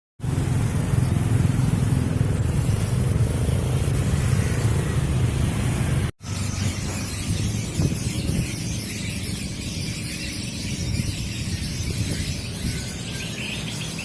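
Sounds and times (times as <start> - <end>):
motorcycle engine running: 0.2 - 13.8.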